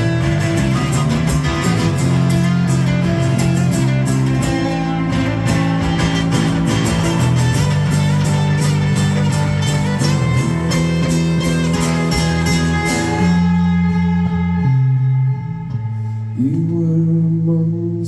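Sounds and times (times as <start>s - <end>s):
guitar chord ringing: 0.0s - 17.5s
guitar strumming: 0.0s - 18.0s.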